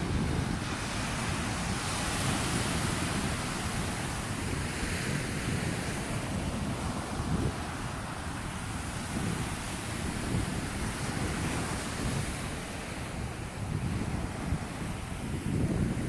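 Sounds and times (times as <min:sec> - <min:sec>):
sea waves washing onto shore: 0:00.0 - 0:16.0
wind rumbling on microphone: 0:00.0 - 0:16.0.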